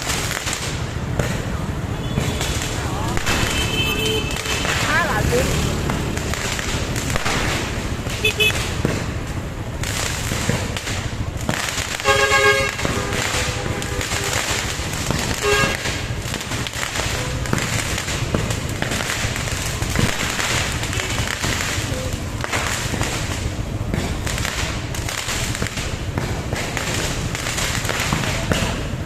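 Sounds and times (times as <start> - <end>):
fireworks crackling pops: 0.0 - 29.0.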